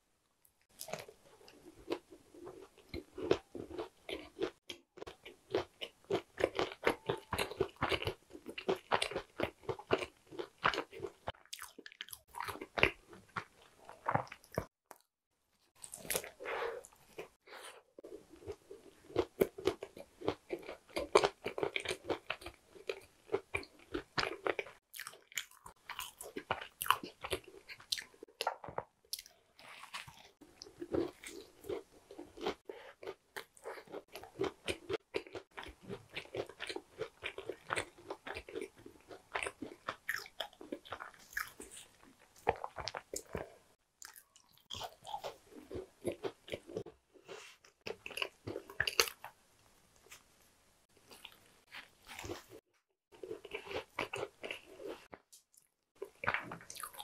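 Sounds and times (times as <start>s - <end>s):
chewing crunchy pastry: 0.6s - 50.3s, 50.9s - 57.0s.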